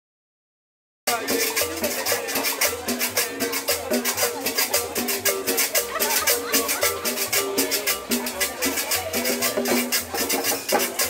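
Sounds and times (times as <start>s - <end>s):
latin dance band playing: 1.1s - 11.0s.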